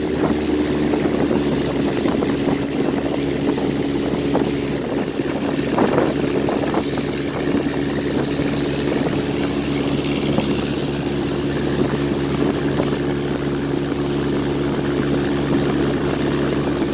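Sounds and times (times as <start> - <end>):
motorboat engine running: 0.0 - 16.9
water rushing: 0.0 - 16.9
wind: 0.0 - 16.9.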